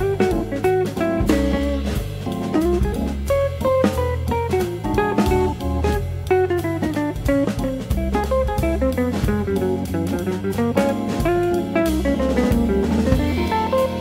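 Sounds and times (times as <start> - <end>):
drum kit: 0.0 - 14.0
plucked guitar: 0.0 - 14.0
upbeat jazzy tune: 0.0 - 14.0.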